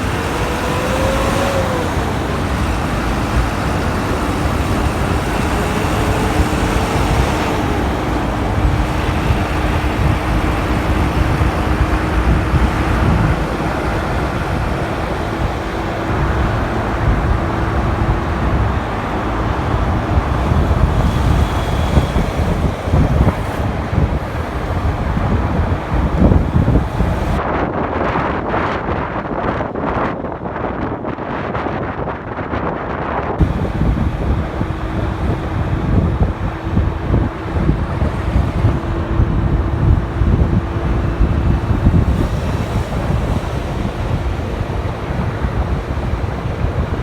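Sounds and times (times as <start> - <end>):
motorcycle engine hum: 0.0 - 27.4, 33.4 - 47.0
road traffic rumble: 0.0 - 27.5, 33.4 - 47.0
wind buffeting microphone: 0.0 - 47.0.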